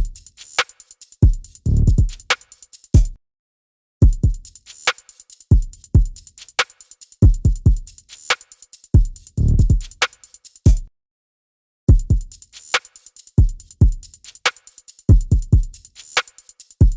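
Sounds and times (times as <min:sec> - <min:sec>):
rapid hi-hat ticks: 0:00.0 - 0:03.1, 0:04.0 - 0:10.8, 0:11.9 - 0:16.9.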